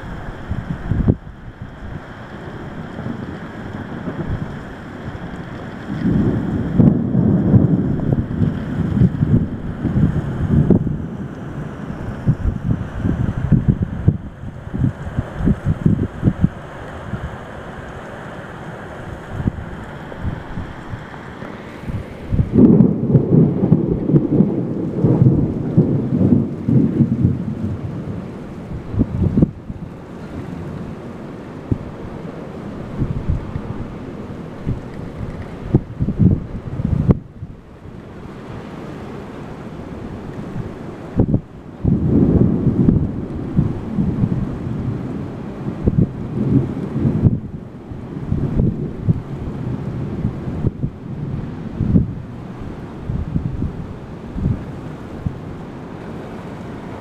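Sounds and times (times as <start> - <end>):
low rumble of thunder: 0.0 - 17.3, 21.9 - 57.0
steady rain: 0.0 - 57.0
wind: 0.0 - 57.0.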